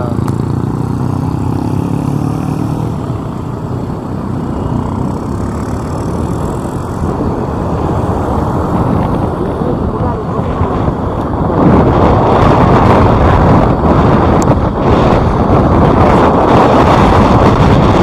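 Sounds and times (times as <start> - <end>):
motorbike engine and road noise: 0.0 - 18.0.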